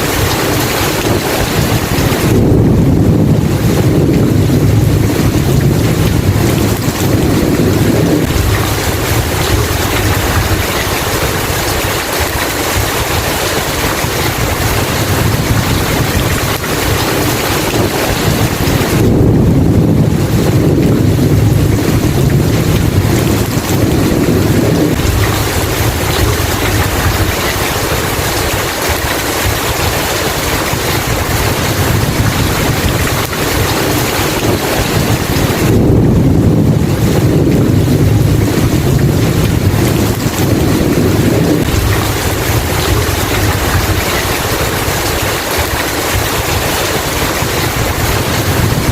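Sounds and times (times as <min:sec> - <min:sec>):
heavy rain: 0:00.0 - 0:48.9
low rumble of thunder: 0:00.0 - 0:48.9.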